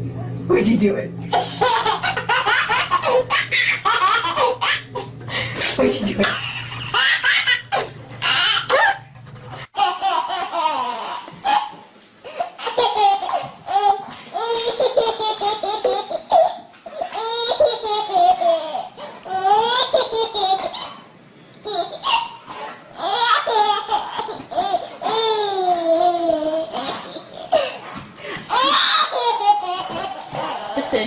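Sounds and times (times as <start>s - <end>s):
baby laughing: 1.3s - 5.1s, 6.2s - 9.1s, 9.7s - 31.0s.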